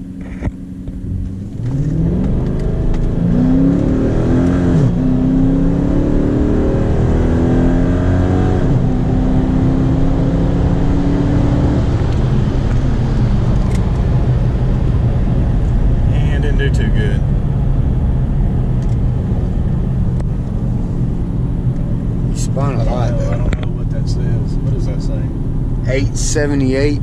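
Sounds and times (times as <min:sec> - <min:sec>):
car engine revving at full throttle: 0:00.0 - 0:27.0.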